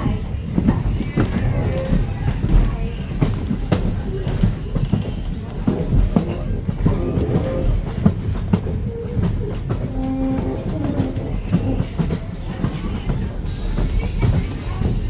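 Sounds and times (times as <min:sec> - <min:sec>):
train coach rumbling on track: 0:00.0 - 0:15.0
wheels clacking on rails: 0:00.0 - 0:15.0.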